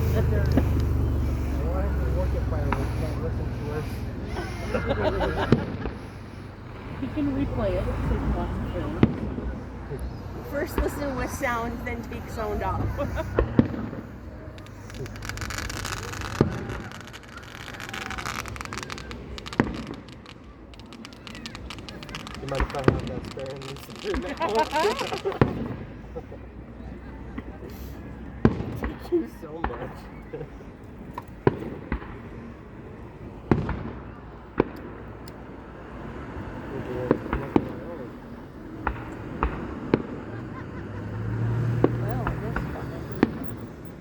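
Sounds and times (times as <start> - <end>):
fireworks bangs: 0.0 - 44.0
fireworks crackle: 0.0 - 44.0.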